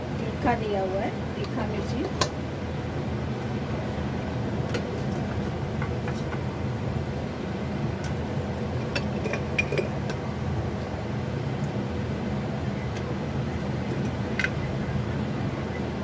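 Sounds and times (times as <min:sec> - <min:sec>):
water boiling in a pot: 0:00.0 - 0:16.0.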